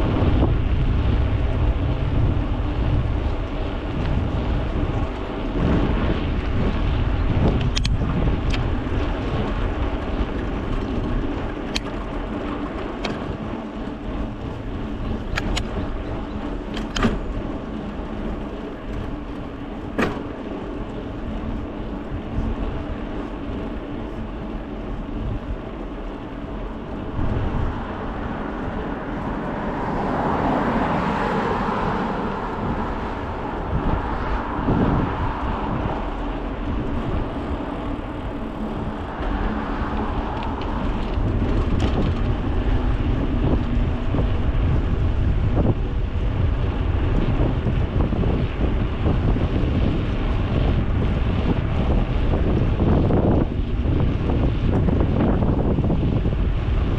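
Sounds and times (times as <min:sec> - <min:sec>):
bicycle clicks and ticks: 0:00.0 - 0:56.9
wind and tyre rumble: 0:00.0 - 0:56.9.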